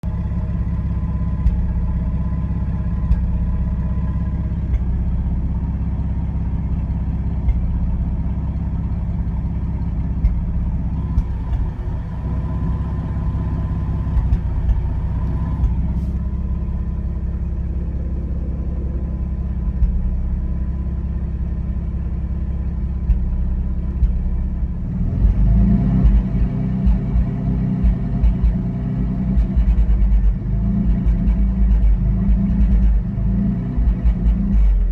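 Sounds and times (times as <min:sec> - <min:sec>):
car engine idling with misfire: 0:00.0 - 0:34.9.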